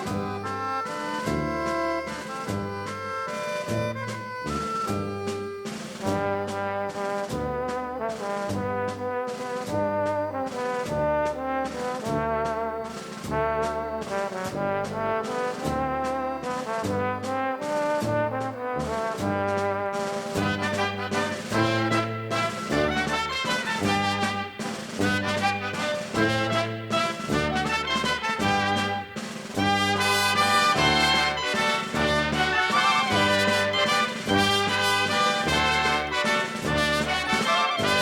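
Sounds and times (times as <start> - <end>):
walking bass line: 0.0 - 19.8, 20.4 - 38.0
upbeat jazzy brass tune: 0.0 - 38.0.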